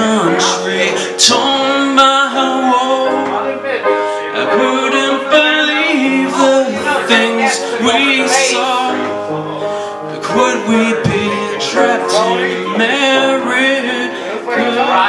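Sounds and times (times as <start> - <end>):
man singing: 0.0 - 15.0
piano accompaniment: 0.0 - 15.0.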